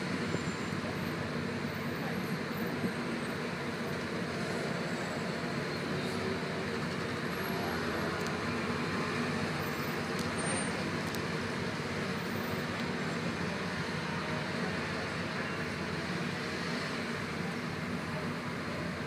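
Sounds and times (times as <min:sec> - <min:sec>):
city traffic noise: 0:00.0 - 0:19.0
vehicle engine hum: 0:00.0 - 0:19.0.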